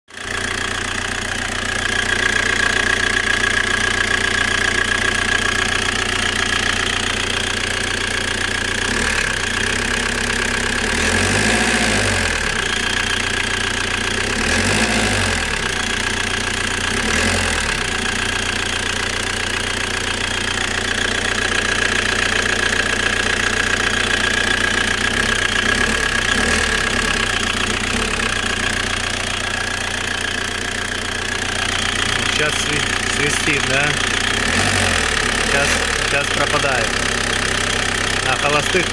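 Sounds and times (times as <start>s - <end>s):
car engine idling and revving: 0.1s - 38.9s.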